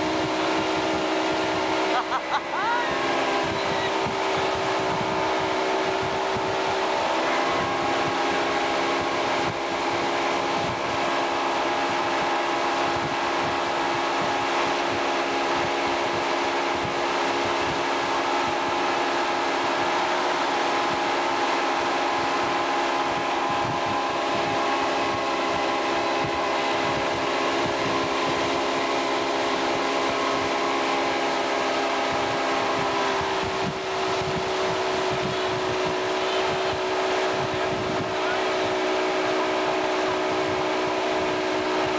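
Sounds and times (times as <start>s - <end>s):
motorboat engine droning: 0.0s - 41.9s
rush of wind and water: 0.0s - 41.9s.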